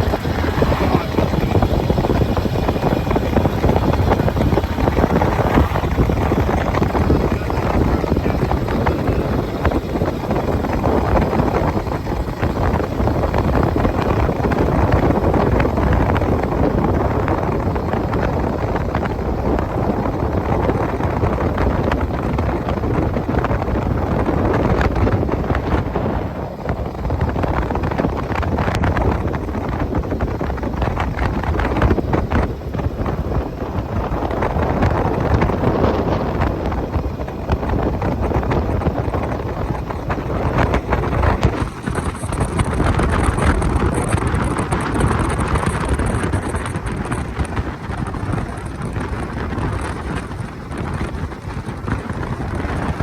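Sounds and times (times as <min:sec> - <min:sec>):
truck engine running: 0:00.0 - 0:53.0
wind buffeting microphone: 0:00.0 - 0:53.0.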